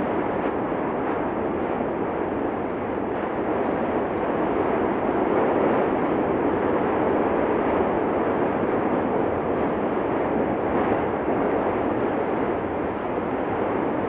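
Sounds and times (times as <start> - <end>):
volcano eruption rushing noise: 0.0 - 14.0.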